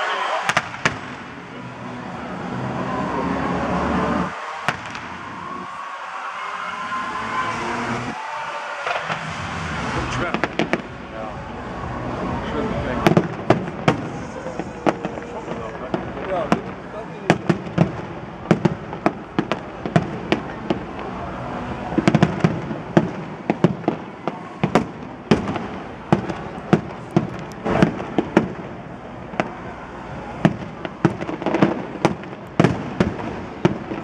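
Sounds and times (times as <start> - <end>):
fireworks bursting with sharp bangs: 0.0 - 2.2, 3.6 - 6.2, 7.2 - 34.0.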